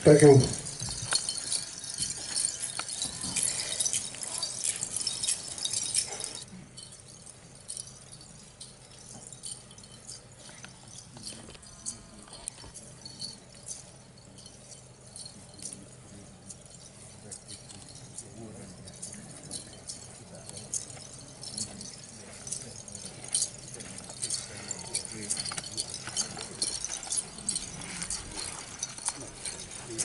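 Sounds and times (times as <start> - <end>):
rapid rattling and jingling: 0.0 - 30.0.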